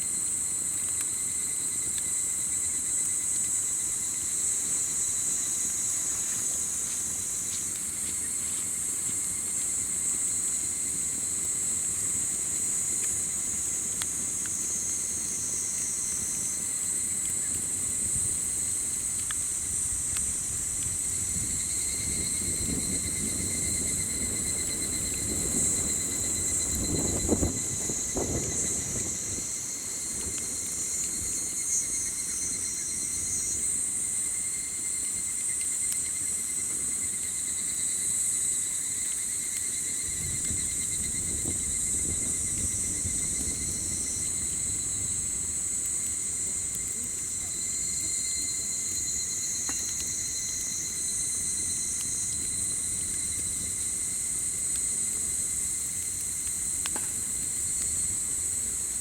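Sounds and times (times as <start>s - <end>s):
crickets trilling: 0.0s - 59.0s
campfire popping: 0.1s - 59.0s.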